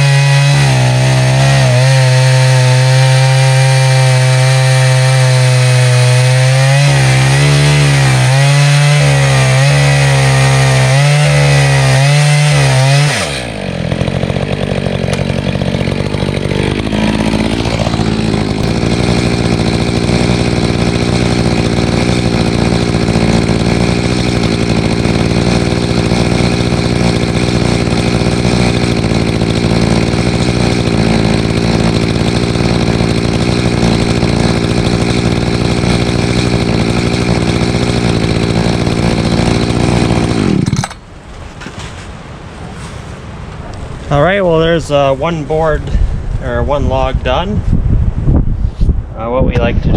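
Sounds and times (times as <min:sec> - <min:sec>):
chainsaw cutting log: 0:00.0 - 0:42.0.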